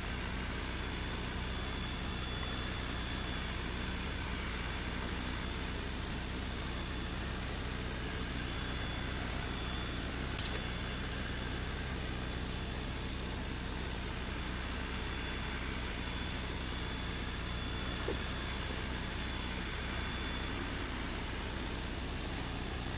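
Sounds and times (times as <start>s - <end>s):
air pump and cooling fans humming: 0.0s - 22.9s.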